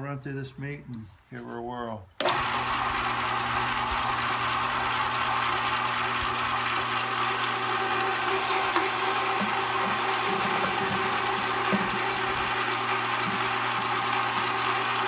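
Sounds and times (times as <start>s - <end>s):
electric meat grinder running: 2.2s - 15.0s.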